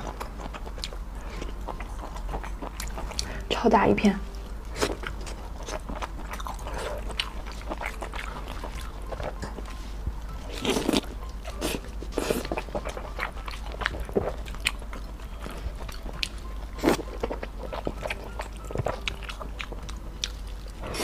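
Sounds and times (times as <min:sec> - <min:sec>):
person chewing noodles: 0:00.0 - 0:03.5, 0:04.3 - 0:21.0.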